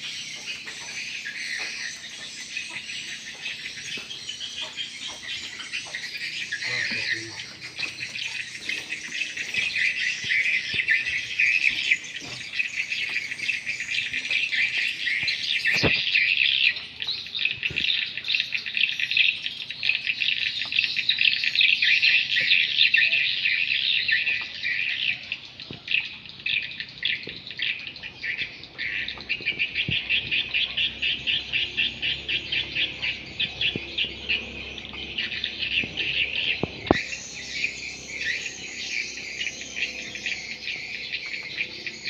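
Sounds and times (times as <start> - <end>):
swiftlets twittering: 0.0 - 22.2, 26.2 - 42.0.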